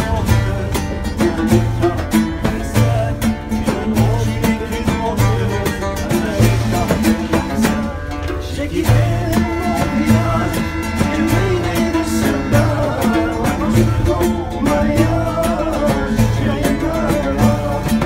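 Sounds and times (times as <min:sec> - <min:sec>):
acoustic guitar: 0:00.0 - 0:18.0
frame drum beat: 0:00.0 - 0:18.0
men singing: 0:00.0 - 0:18.0
oud: 0:00.0 - 0:18.0.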